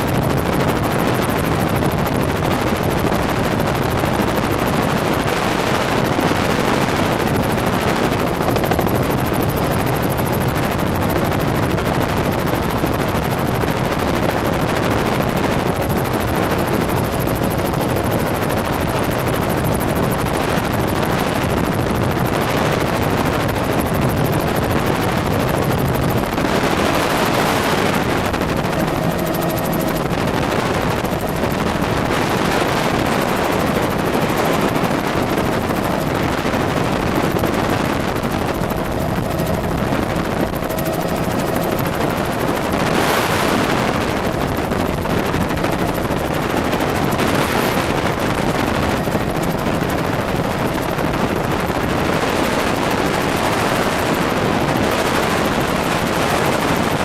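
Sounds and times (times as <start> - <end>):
helicopter rotor chop: 0.0 - 57.0.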